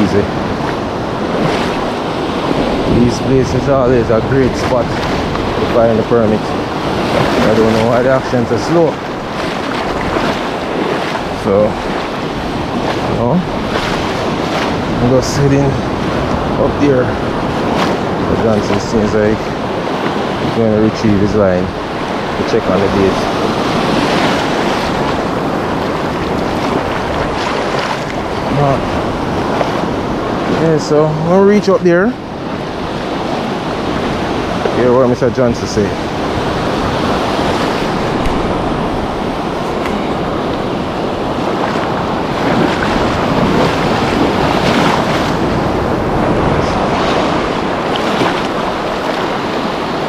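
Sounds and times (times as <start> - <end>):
wind on microphone: 0.0 - 31.0, 31.9 - 50.0
surf on a reef: 0.0 - 50.0.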